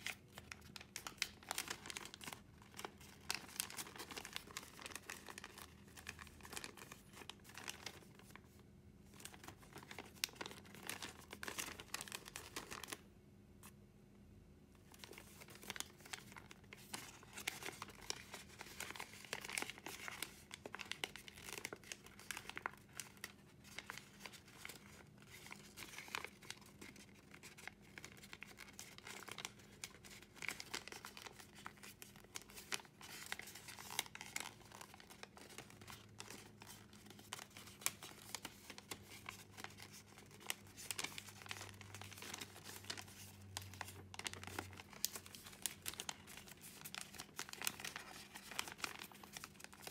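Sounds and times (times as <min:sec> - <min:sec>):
paper crinkling and crackling: 0:00.0 - 0:13.8, 0:14.8 - 0:49.9.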